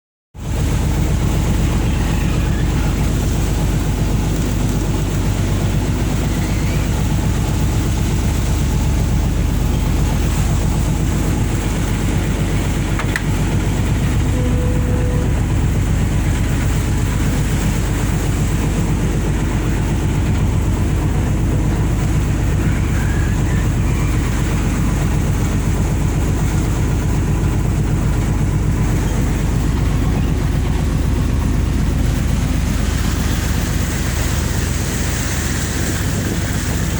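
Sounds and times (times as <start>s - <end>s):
boat engine droning: 0.4s - 36.9s.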